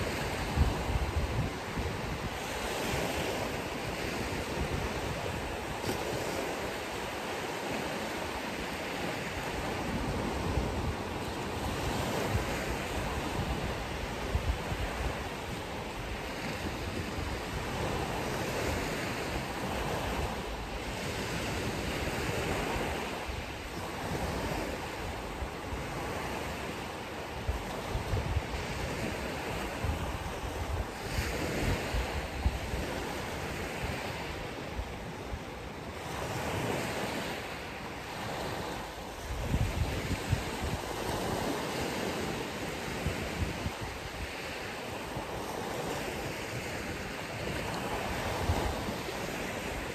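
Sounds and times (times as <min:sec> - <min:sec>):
ocean surf on a beach: 0:00.0 - 0:49.9
wind rumbling on microphone: 0:00.0 - 0:49.9.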